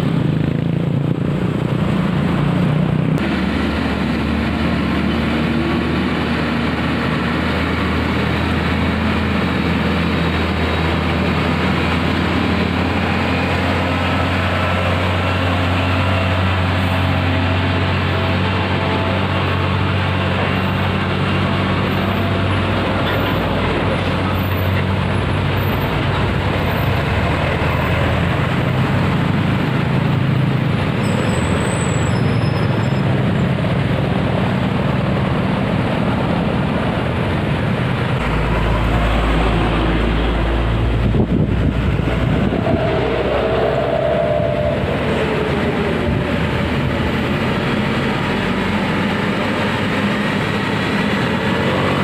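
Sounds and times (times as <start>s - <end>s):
heavy traffic passing: 0.0s - 52.0s
heavy truck rumble: 0.0s - 52.0s.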